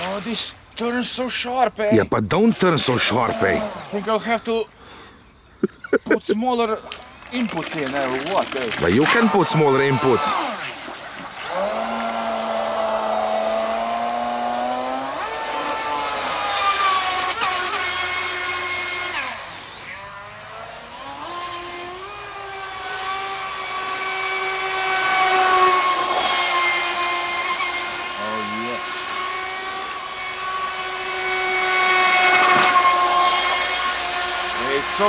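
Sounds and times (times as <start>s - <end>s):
rc boat motor whining: 0.0s - 35.0s.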